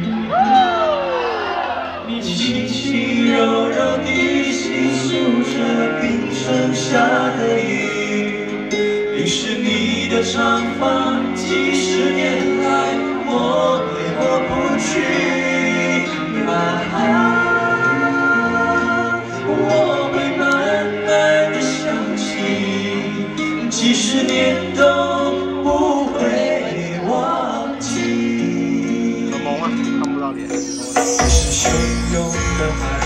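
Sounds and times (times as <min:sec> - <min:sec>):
musical accompaniment: 0:00.0 - 0:33.0
man and woman singing: 0:02.0 - 0:29.8, 0:31.1 - 0:33.0.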